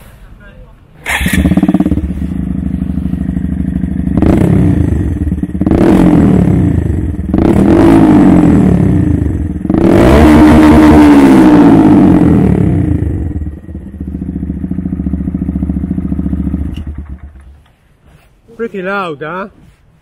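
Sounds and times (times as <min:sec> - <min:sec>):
motorcycle engine revving: 0:01.0 - 0:17.6.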